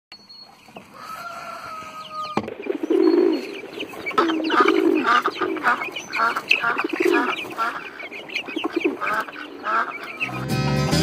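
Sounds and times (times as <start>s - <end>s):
poultry calling: 0.4s - 11.0s.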